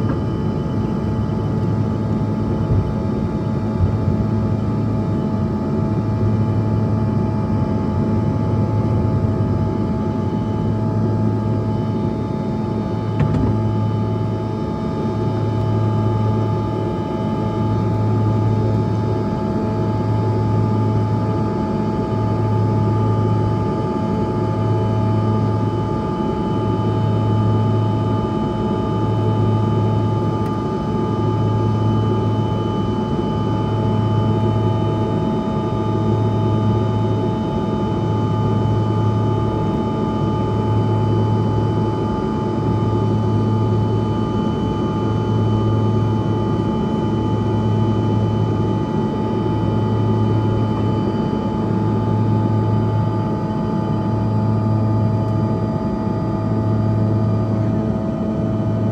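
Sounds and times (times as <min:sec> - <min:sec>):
jet engine whine in cabin: 0:00.0 - 0:58.9
low engine drone: 0:00.0 - 0:58.9.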